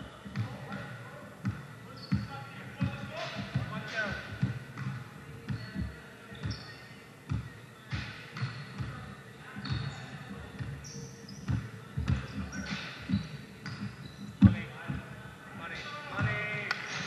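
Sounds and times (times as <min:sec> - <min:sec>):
sneakers squeaking on court: 0:00.0 - 0:17.0
basketball bouncing on gym floor: 0:00.1 - 0:15.1.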